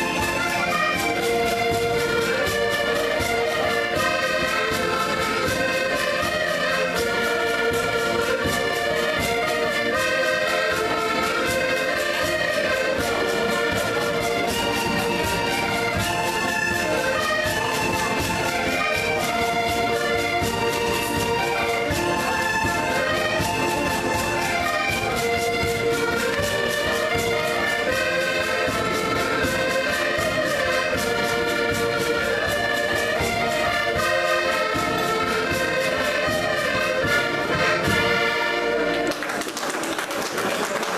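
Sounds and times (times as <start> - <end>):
accordions playing folk tune: 0.0 - 40.9.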